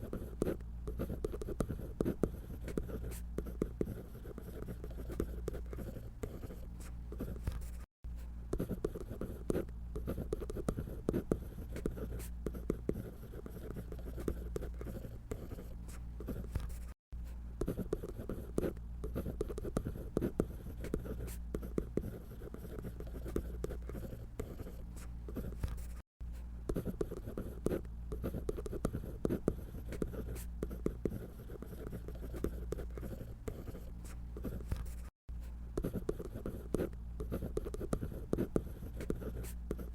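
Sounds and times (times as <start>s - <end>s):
scratchy drawing on paper: 0.0s - 7.9s, 8.5s - 35.1s, 35.8s - 39.9s.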